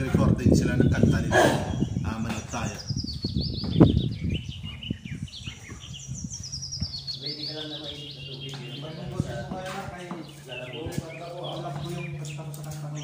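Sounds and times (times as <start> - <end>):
small bird chirping: 0.7 - 13.0.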